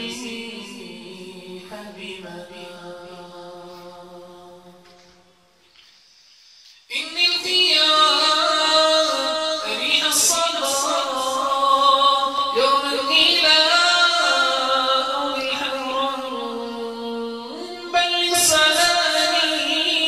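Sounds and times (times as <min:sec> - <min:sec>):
man singing with held notes: 0:00.0 - 0:05.6, 0:06.9 - 0:20.0.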